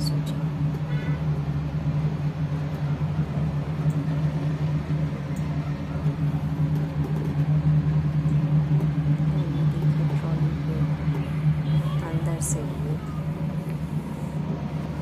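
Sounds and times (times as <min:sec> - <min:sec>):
steady low mechanical drone: 0:00.0 - 0:15.0.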